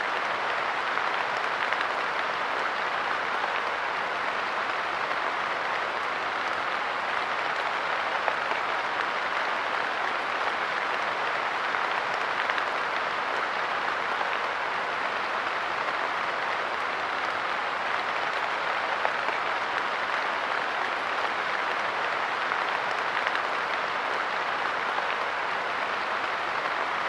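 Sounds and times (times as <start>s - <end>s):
light rain pattering: 0.0s - 27.0s.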